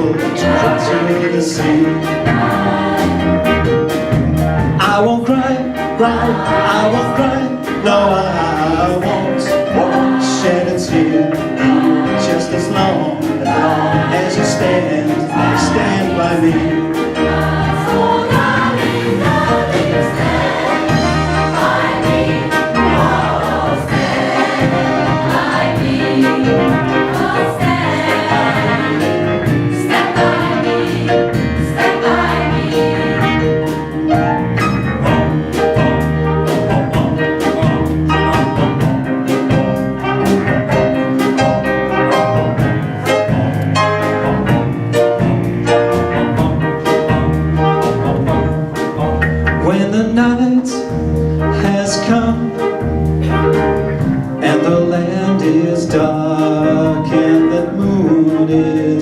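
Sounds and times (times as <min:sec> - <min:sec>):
choir voices: 0:00.0 - 0:04.0, 0:04.8 - 0:40.2, 0:42.0 - 0:45.0, 0:45.9 - 0:59.0
gospel band playing: 0:00.0 - 0:59.0
steady drum beat: 0:00.0 - 0:59.0.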